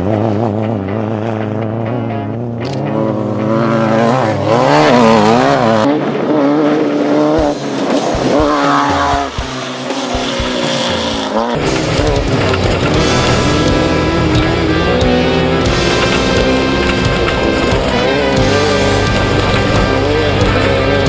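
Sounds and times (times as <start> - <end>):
race vehicle engines revving: 0.0 - 21.0.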